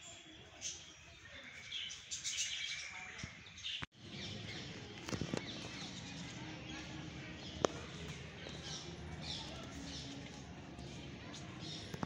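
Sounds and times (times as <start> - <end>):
outdoor background murmur: 0.0 - 12.0.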